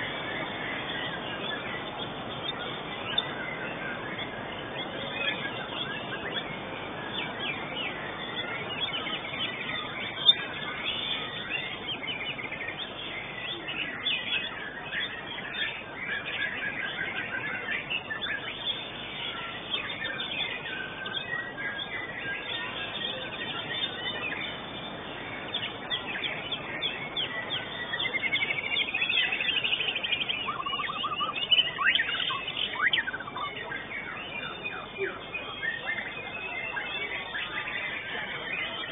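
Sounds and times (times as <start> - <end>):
bird singing chirps and trills: 0.0 - 38.9
steady background noise: 0.0 - 38.9.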